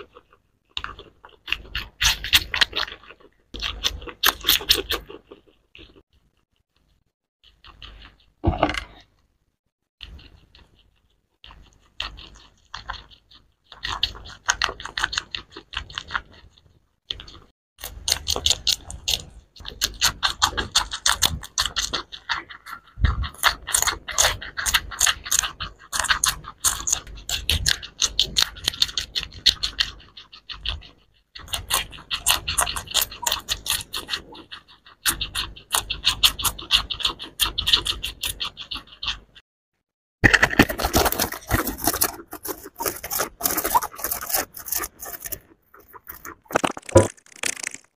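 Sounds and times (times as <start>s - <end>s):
guinea pigs crunching food: 0.0s - 9.1s, 10.0s - 39.4s, 40.2s - 47.9s.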